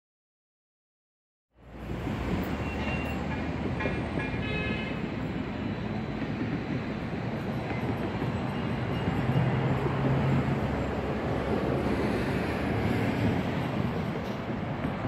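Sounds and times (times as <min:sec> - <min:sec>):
road traffic rumble on a bridge: 0:01.5 - 0:15.0.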